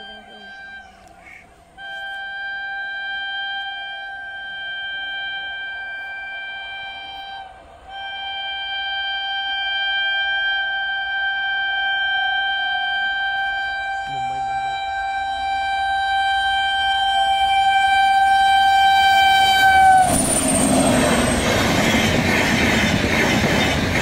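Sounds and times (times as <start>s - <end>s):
train air horn blasts: 0.0s - 24.0s.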